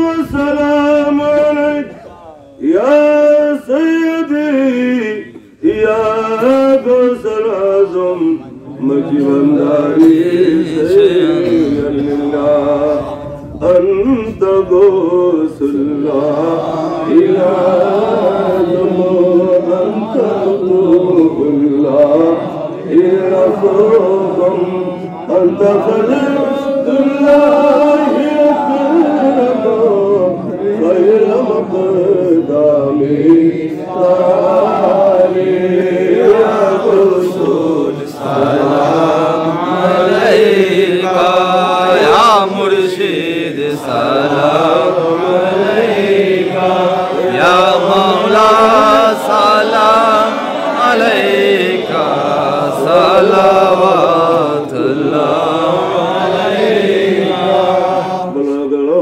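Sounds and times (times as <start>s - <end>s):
man chanting through a microphone: 0.0s - 59.0s.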